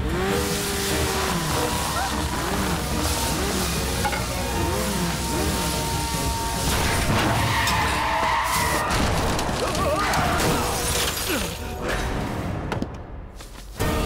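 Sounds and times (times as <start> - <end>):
action film score: 0.0 - 14.0
crashing and shattering impacts: 0.2 - 11.8.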